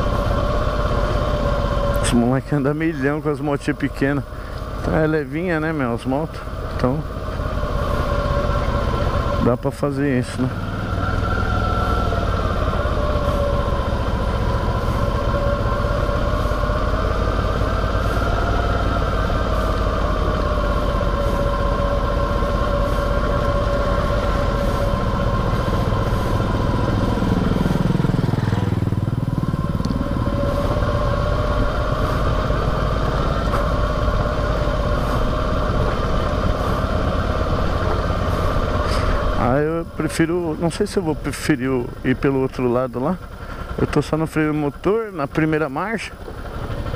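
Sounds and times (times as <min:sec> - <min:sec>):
motorcycle engine engine braking: 0:00.0 - 0:46.9.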